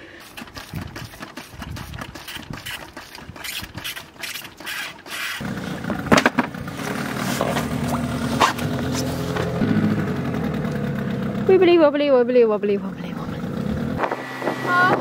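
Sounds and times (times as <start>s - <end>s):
outboard motor running: 0.1s - 4.3s, 5.3s - 15.0s.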